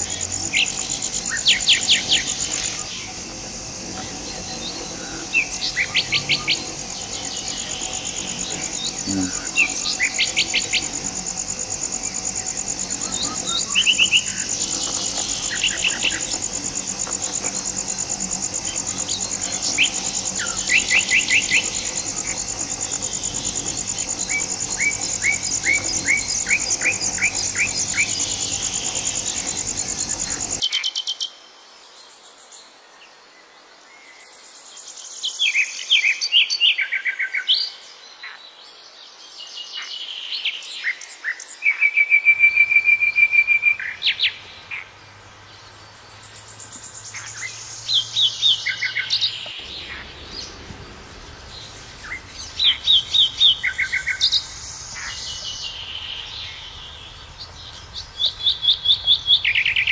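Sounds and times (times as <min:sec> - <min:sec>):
pulsing insect drone: 0:00.0 - 0:30.6, 0:42.3 - 0:59.9.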